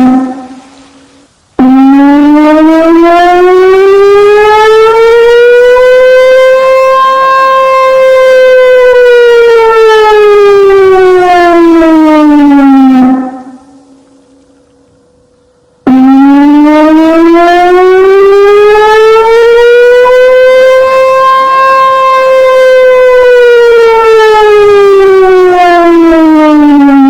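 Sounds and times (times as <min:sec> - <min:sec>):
civil defense siren wailing: 0:00.0 - 0:27.0.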